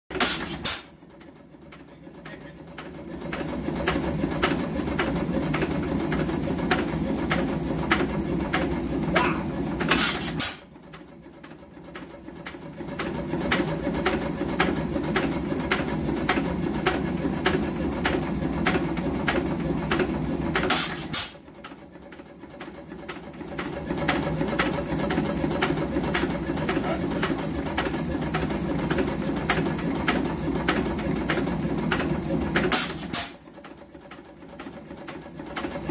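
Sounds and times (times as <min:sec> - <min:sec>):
engine mechanical clicking and hum: 0:00.1 - 0:35.9.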